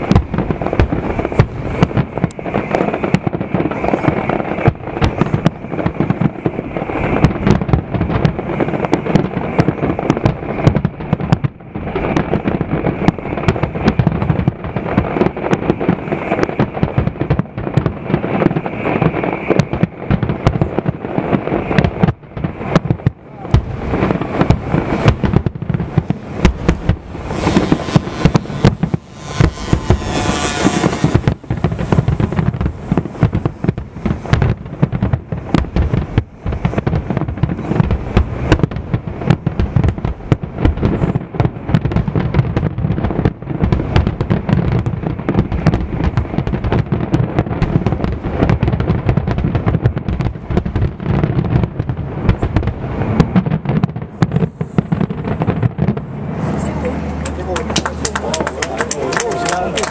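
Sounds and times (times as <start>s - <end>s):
fireworks bursts and booms: 0.0s - 59.9s.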